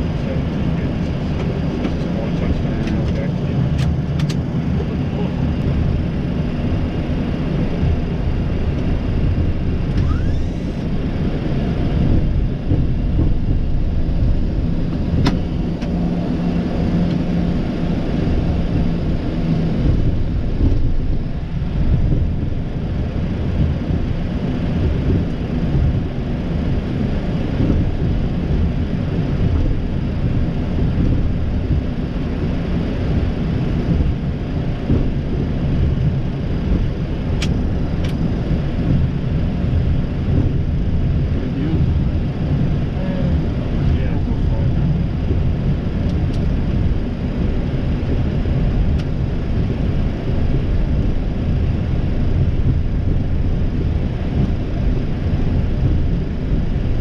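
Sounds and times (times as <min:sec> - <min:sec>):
low rumble of taxiing aircraft: 0:00.0 - 0:57.0.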